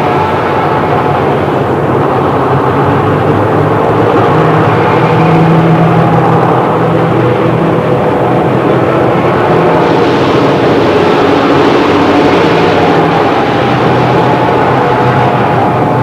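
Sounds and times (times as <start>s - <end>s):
cartoon train running: 0.0s - 16.0s.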